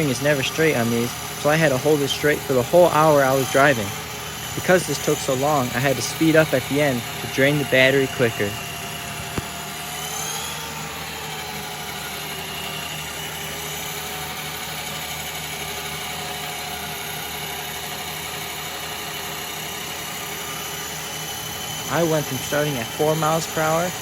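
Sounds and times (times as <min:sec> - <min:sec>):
treadmill mechanical whine: 0:00.0 - 0:24.0.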